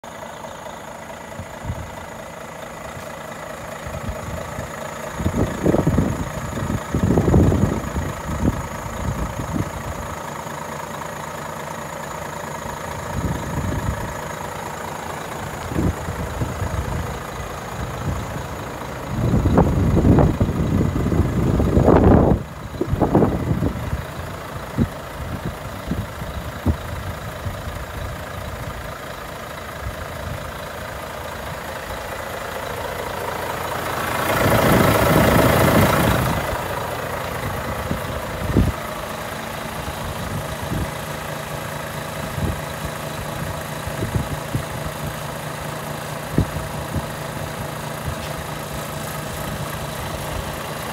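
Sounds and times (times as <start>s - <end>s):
diesel truck engine idling: 0.0s - 50.9s.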